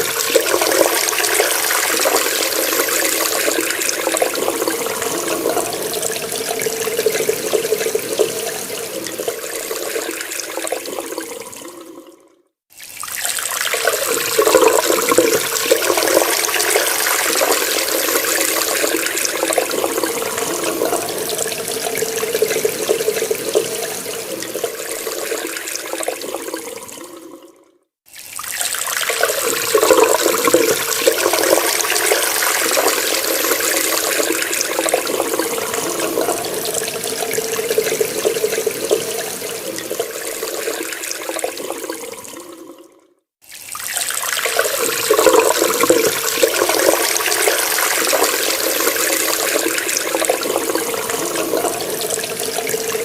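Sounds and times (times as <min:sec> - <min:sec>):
water running from a tap: 0:00.0 - 0:11.8, 0:12.7 - 0:26.8, 0:28.1 - 0:42.2, 0:43.4 - 0:53.0.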